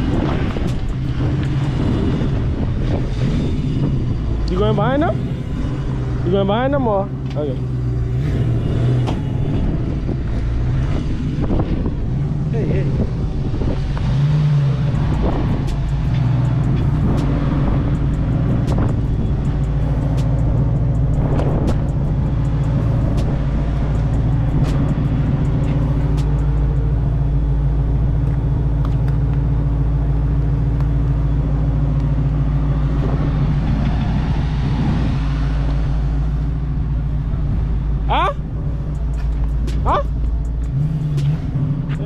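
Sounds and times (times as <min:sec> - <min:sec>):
car engine droning: 0:00.0 - 0:42.0.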